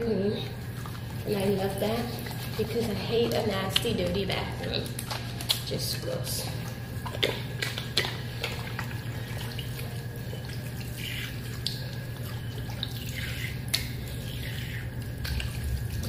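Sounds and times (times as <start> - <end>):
steady low hum: 0.0 - 16.0
water running from tap: 0.0 - 16.0.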